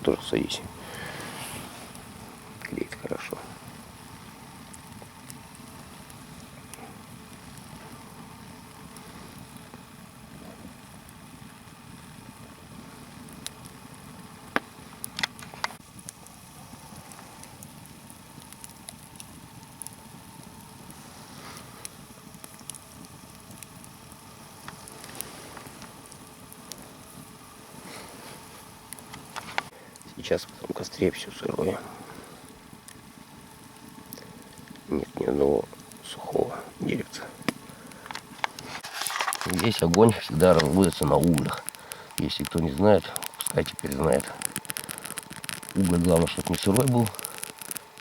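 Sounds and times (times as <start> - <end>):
log fire hissing and crackling: 0.0 - 48.0
sharp fire pops: 0.0 - 48.0.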